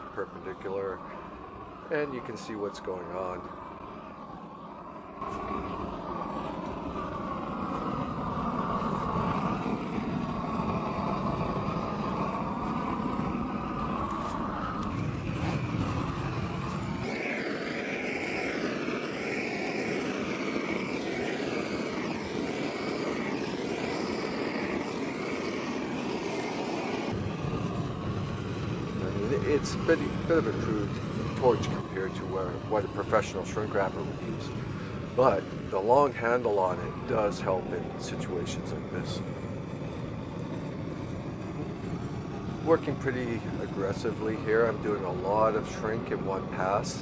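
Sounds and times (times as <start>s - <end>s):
torch flame roaring: 0.0s - 47.0s.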